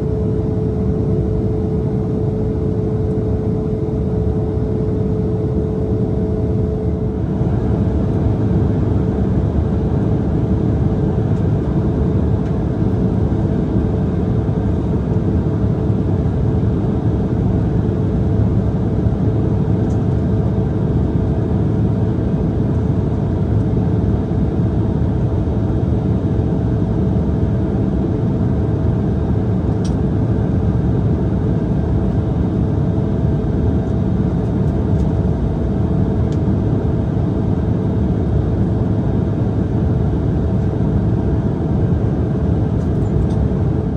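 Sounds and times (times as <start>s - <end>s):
jet engines and airflow rumble: 0.0s - 43.9s.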